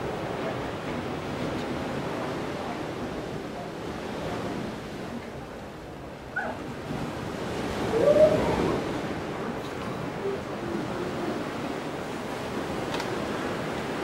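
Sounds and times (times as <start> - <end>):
sea waves washing: 0.0 - 14.0
wind on microphone: 0.0 - 14.0.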